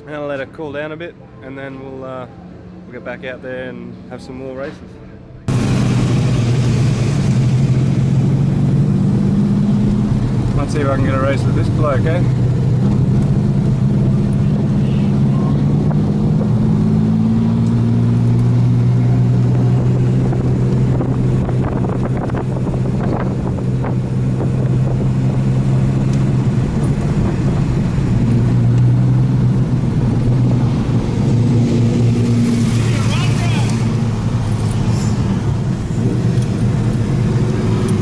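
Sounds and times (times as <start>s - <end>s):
car engine idling: 4.1s - 38.0s.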